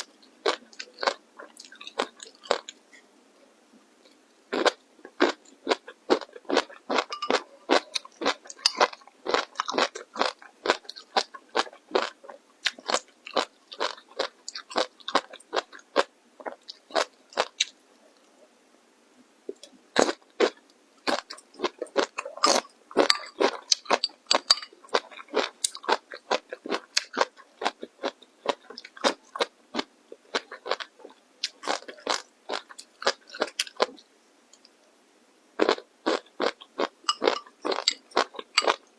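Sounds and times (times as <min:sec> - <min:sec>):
crunchy food being chewed: 0:00.0 - 0:02.8, 0:04.1 - 0:18.3, 0:19.6 - 0:34.0, 0:35.6 - 0:38.9.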